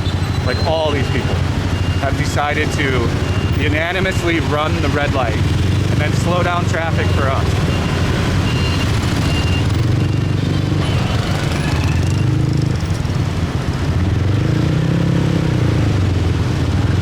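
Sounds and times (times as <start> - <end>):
motorcycle engine running: 0.0 - 17.0
street traffic: 0.0 - 17.0.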